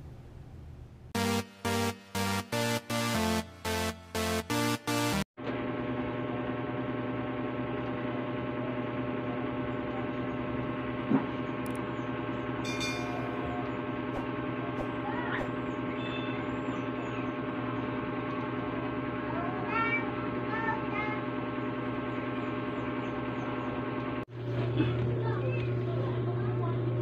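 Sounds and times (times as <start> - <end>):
turntable motor humming: 1.2 - 27.0.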